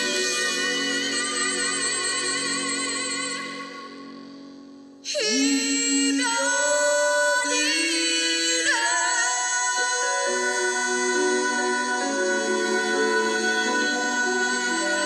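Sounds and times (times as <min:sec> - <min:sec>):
sliding melody over sustained accompaniment: 0:00.0 - 0:15.0.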